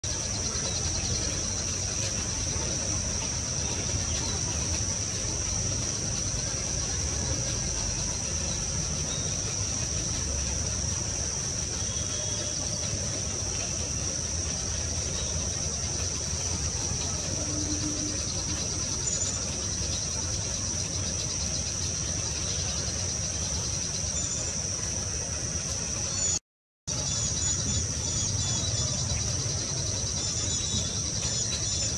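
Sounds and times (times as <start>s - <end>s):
insects chirring: 0.0s - 31.9s.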